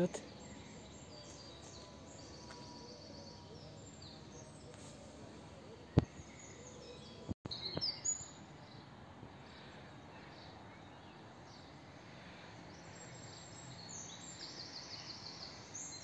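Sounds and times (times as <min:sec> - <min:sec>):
faint steady background noise: 0:00.0 - 0:16.0
songbirds chirping: 0:00.0 - 0:16.0.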